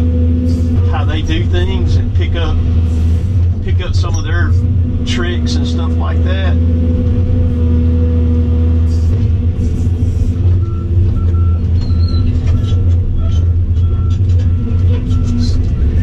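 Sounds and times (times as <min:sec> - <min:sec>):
excavator engine and hydraulics: 0:00.0 - 0:16.0.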